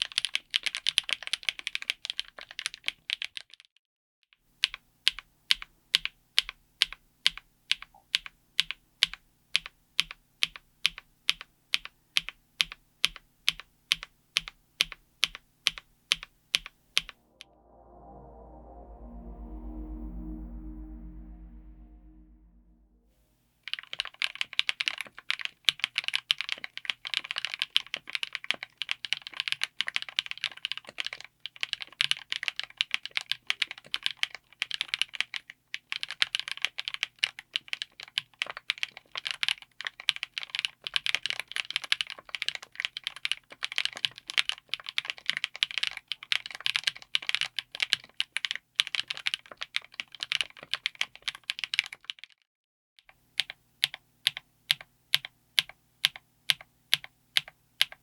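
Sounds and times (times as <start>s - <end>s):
fast typing on mechanical keyboard: 0.0s - 3.7s, 4.6s - 17.1s, 23.7s - 52.4s, 53.2s - 58.0s.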